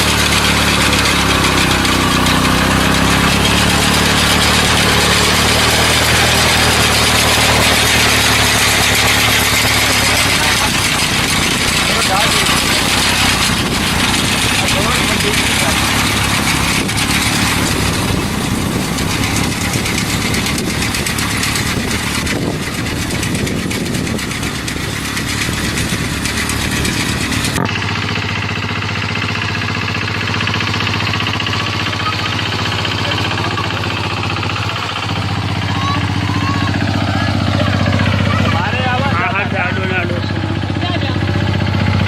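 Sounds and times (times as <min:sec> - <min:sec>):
engine idling with low hum: 0:00.0 - 0:42.0
engine running: 0:00.0 - 0:42.0.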